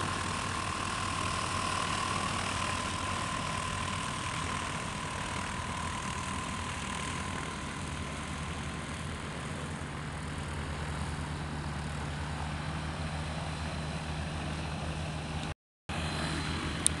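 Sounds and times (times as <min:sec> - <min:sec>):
light aircraft engines running: 0:00.0 - 0:17.0
propeller hum: 0:00.0 - 0:17.0.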